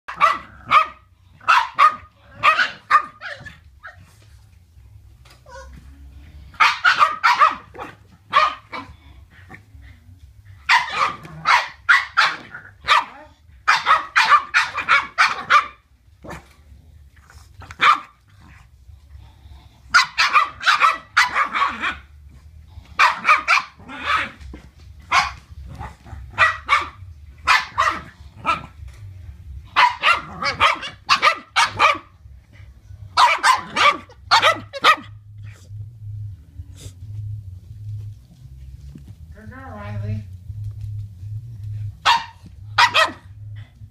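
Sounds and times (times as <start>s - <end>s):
dogs barking in play: 0.1s - 35.6s, 41.3s - 43.9s.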